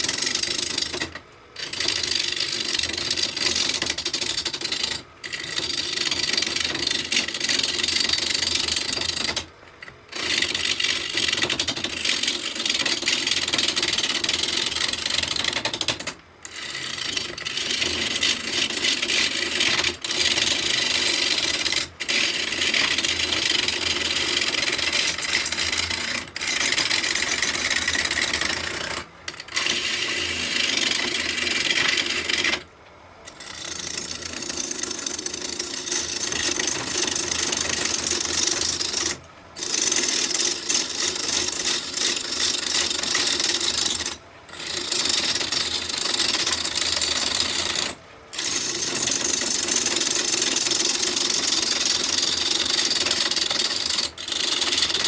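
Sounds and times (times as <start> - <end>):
gouge scraping wood on lathe: 0.0 - 32.7, 33.3 - 55.0.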